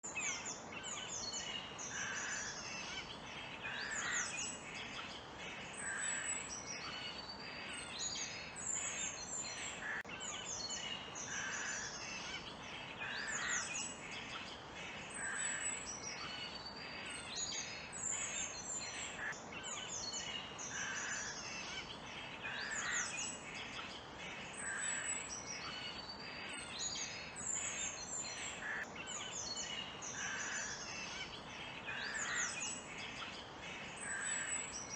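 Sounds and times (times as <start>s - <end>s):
forest birds singing and calling: 0.0s - 34.9s
steady background hiss: 0.1s - 34.9s.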